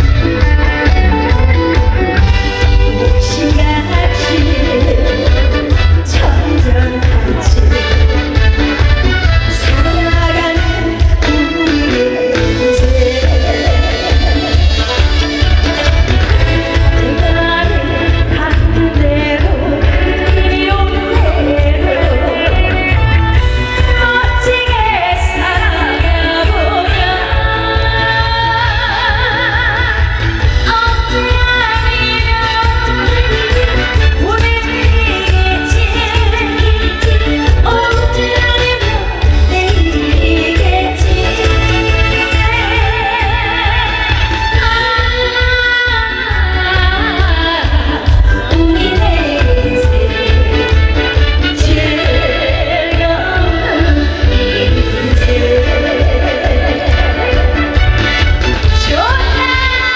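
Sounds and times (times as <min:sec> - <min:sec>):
woman singing: 0:00.0 - 0:59.9.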